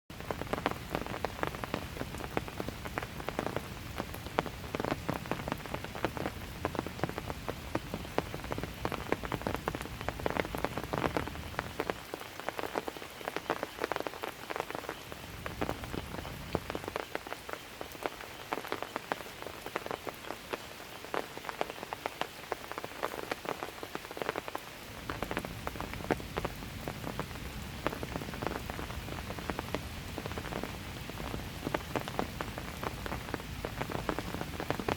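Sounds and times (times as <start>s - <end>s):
light rain falling: 0.1s - 34.9s.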